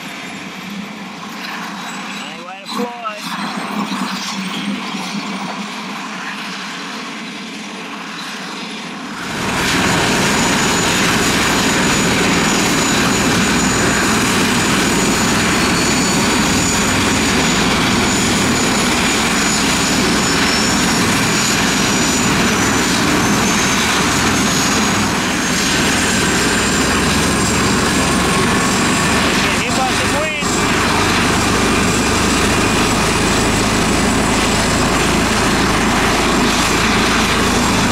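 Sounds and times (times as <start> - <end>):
helicopter rotor noise: 0.0 - 37.9
helicopter turbine whine: 0.0 - 37.9.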